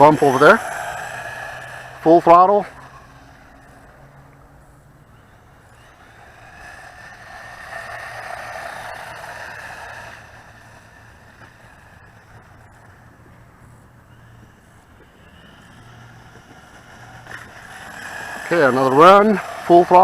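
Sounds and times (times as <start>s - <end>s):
toy truck electric motor whining: 0.0s - 4.3s, 5.0s - 20.0s.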